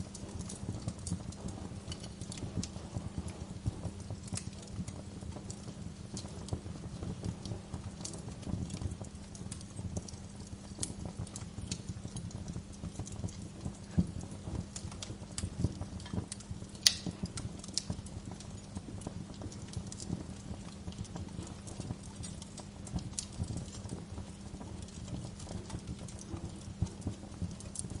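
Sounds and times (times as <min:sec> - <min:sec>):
log fire crackling: 0:00.0 - 0:28.0
low rumble of flames: 0:00.0 - 0:28.0.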